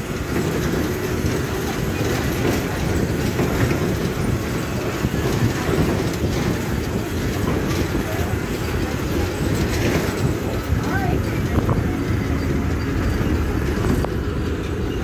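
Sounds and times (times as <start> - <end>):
train wheels rumbling on track: 0.0 - 15.0
wheels clicking over rail joints: 0.0 - 15.0.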